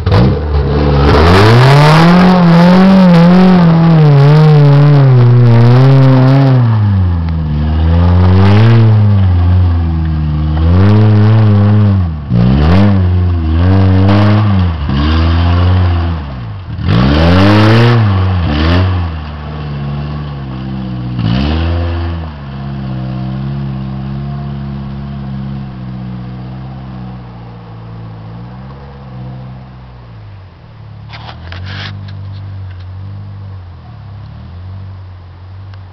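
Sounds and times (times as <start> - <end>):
engine revving under load: 0.0 - 30.4.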